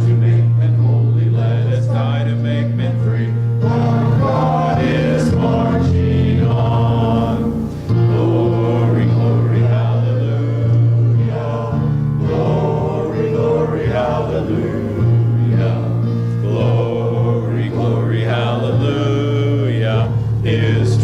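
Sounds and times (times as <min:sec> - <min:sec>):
congregation singing a hymn: 0:00.0 - 0:21.0
long bass notes accompaniment: 0:00.0 - 0:21.0.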